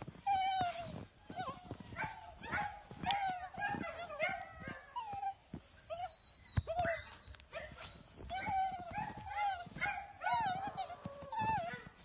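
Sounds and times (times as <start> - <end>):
puppy whining and yipping: 0.2 - 12.0.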